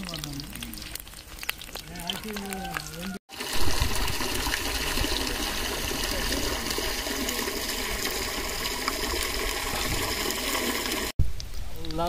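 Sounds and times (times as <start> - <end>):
water gushing from pipe: 0.0 - 11.2.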